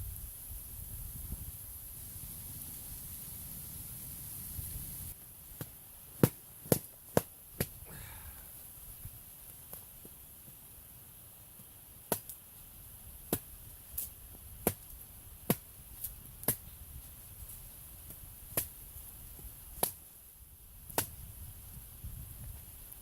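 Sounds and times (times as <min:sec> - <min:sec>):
campfire crackling: 0:00.0 - 0:23.0
sharp snaps and pops of fire: 0:00.0 - 0:23.0.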